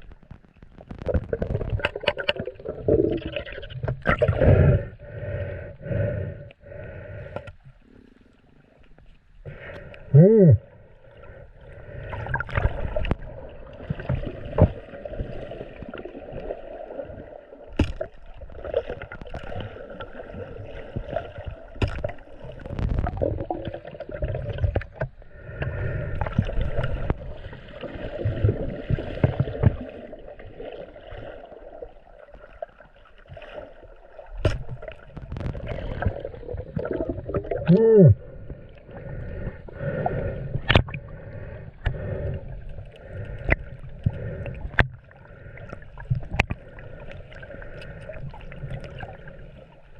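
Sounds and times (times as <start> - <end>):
water sloshing and gurgling: 0.0 - 49.9.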